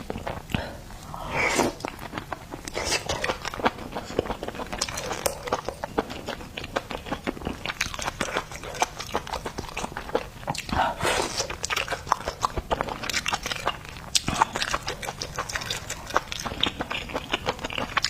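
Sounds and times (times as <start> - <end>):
chewing and biting food: 0.0 - 18.0.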